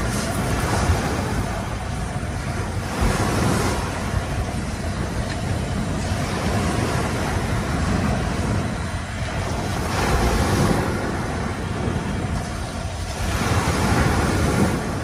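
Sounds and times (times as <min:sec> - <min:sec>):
sea waves breaking on beach: 0:00.0 - 0:15.0
wind buffeting microphone: 0:00.0 - 0:15.0.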